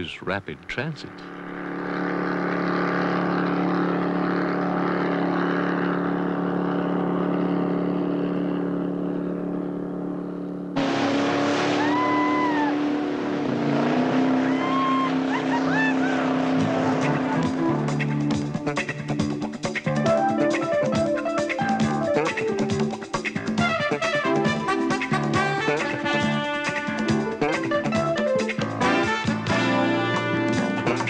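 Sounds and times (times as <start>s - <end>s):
speedboat engine running: 0.0s - 31.0s.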